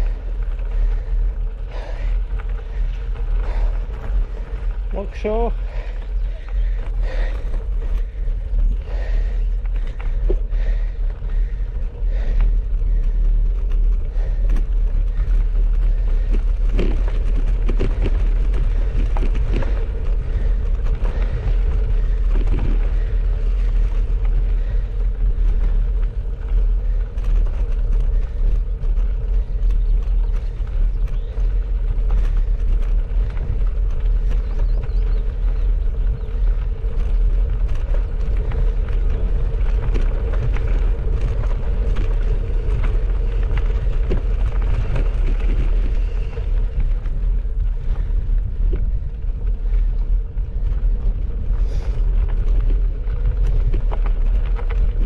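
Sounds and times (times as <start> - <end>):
bicycle clicks and rattles: 0.0 - 55.0
bicycle tyres on gravel: 0.0 - 55.0
wind rumble on microphone: 0.0 - 55.0.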